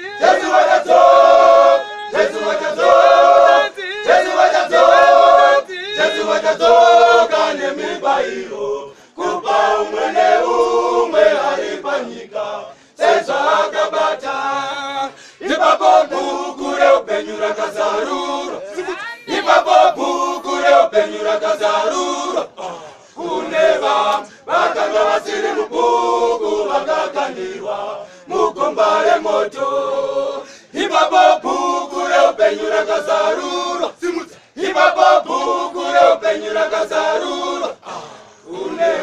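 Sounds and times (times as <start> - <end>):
men's choir singing a cappella: 0.0 - 39.0.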